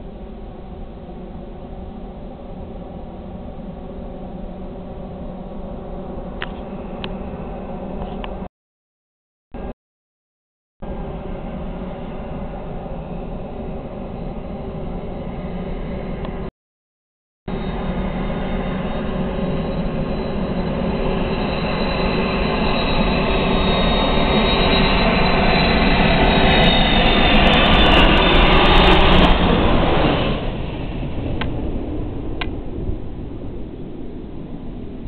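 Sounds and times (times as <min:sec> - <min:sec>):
jet engine: 0:00.0 - 0:08.5, 0:10.8 - 0:16.5, 0:17.5 - 0:35.0.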